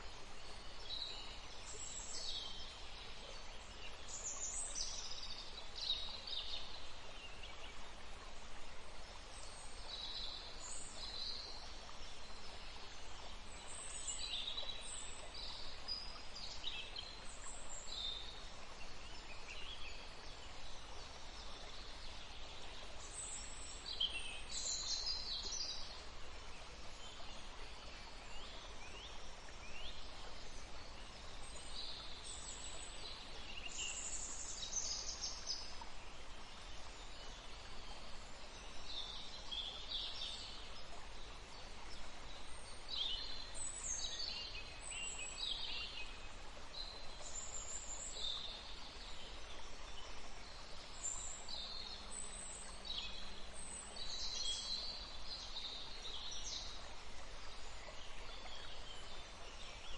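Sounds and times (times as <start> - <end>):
running water hiss: 0.0 - 59.9.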